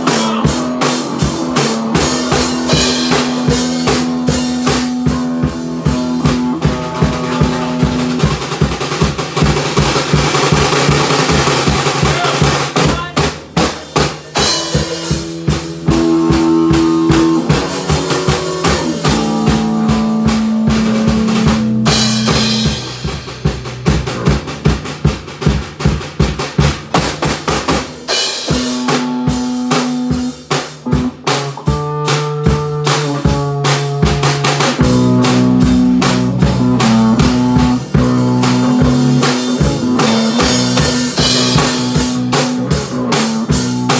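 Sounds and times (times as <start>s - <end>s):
drum kit played busily: 0.0s - 43.9s
electric bass: 0.0s - 43.9s
electric guitar: 0.0s - 43.9s.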